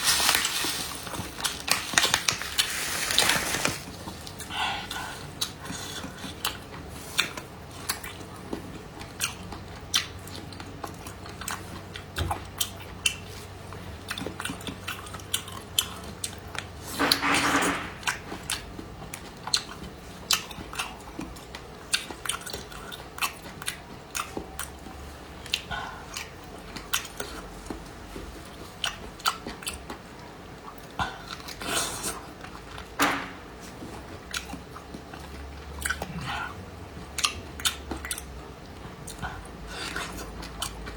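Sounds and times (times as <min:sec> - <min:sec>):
wet chewing and smacking: 0:04.0 - 0:16.7, 0:18.5 - 0:32.9, 0:33.9 - 0:40.9.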